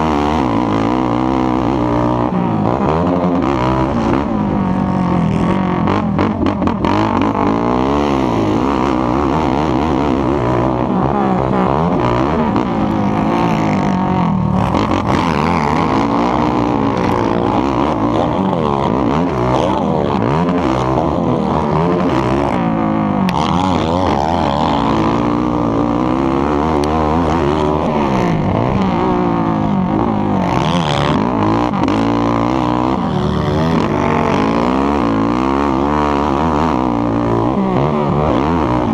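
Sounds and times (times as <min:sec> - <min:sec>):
atv engines revving: 0:00.0 - 0:38.9.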